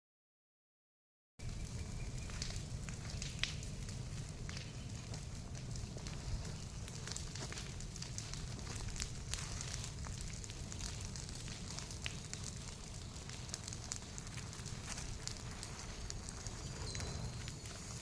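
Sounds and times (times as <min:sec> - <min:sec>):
bonfire crackling and popping: 0:01.4 - 0:18.0.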